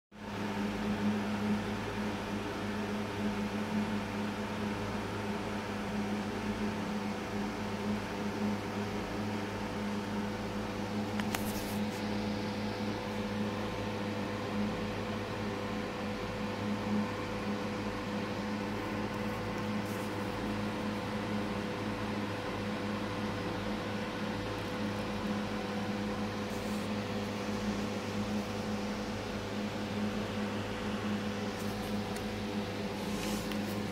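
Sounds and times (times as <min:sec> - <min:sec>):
aquarium equipment hum: 0:00.2 - 0:33.9.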